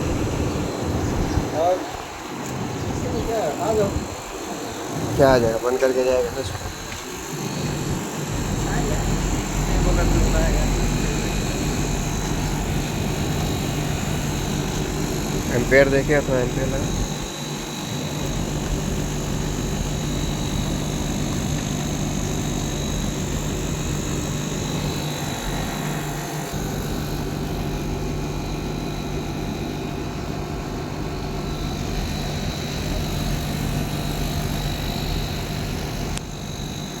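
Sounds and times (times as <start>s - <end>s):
air conditioner humming: 0.0s - 37.0s
faint high whine: 0.0s - 37.0s.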